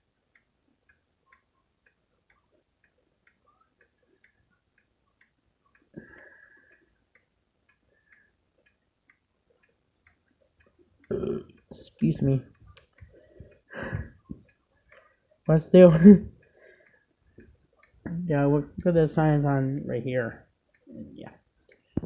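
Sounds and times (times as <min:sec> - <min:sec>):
wall clock ticking: 0:00.0 - 0:22.0.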